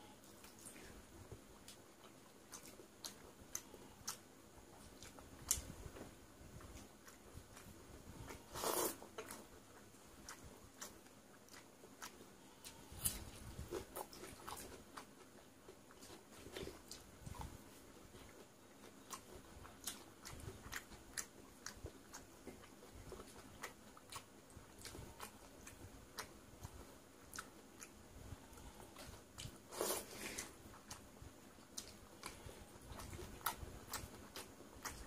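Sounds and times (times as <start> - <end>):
person chewing with wet mouth sounds: 0.0 - 35.0.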